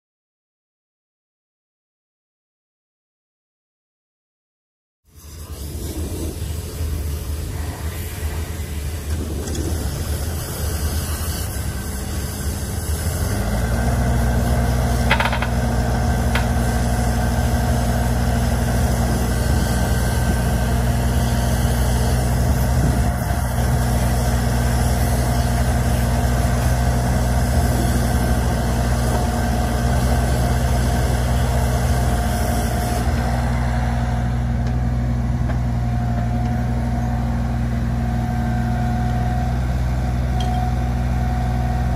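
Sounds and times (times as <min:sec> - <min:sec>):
diesel engine running: 0:05.6 - 0:41.9.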